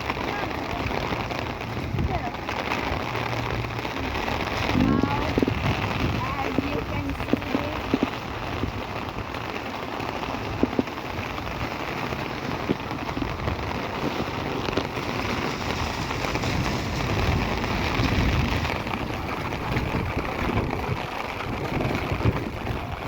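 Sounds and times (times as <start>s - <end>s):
low rumble: 0.0s - 23.0s
steady rain: 0.0s - 23.0s.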